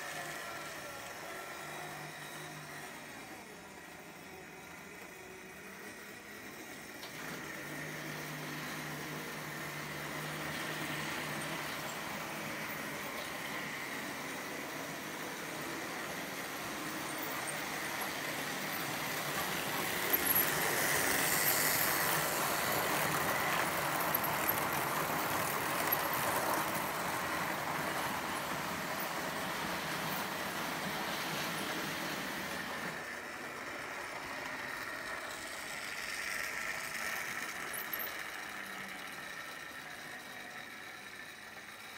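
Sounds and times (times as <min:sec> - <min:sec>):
model train motors whirring: 0:00.0 - 0:41.9
wheels rolling on rails: 0:00.0 - 0:41.9.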